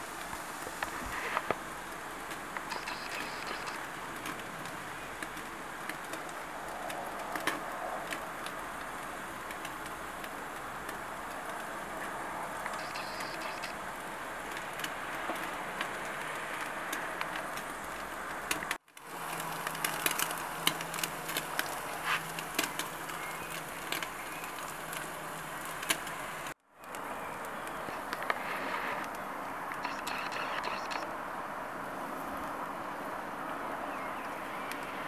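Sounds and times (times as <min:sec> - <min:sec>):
fat crackling and popping: 0:00.0 - 0:35.0.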